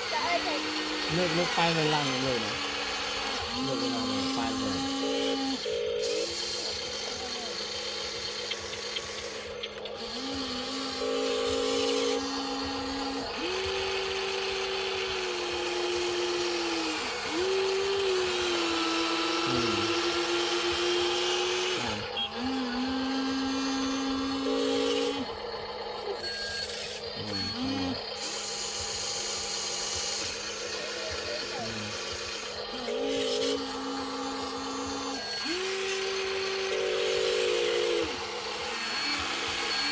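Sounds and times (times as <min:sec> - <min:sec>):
electric motors whining: 0:00.0 - 0:39.9
steady low hum: 0:00.0 - 0:39.9.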